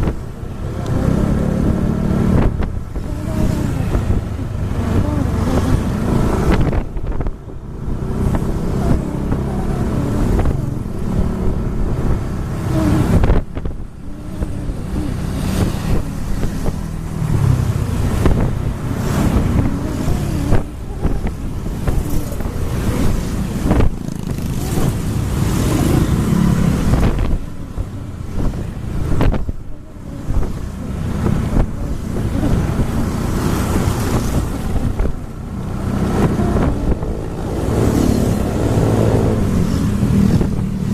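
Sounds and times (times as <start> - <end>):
vehicle engines running: 0.0 - 40.9
wind buffeting microphone: 0.0 - 40.9.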